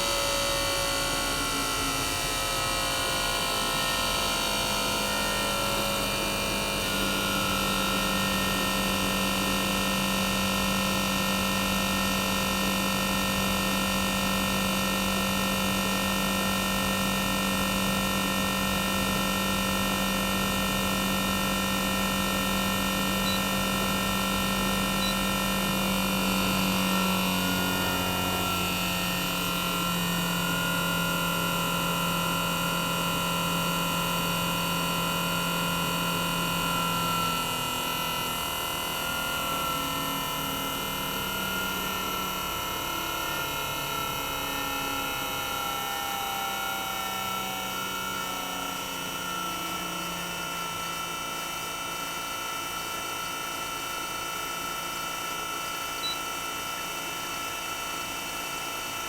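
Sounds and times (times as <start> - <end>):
compressor whine over motor hum: 0.0 - 59.0.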